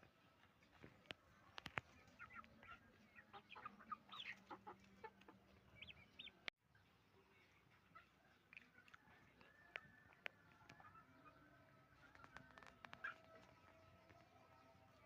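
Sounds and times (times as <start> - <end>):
chickens clucking: 0.4 - 6.5, 7.3 - 15.0.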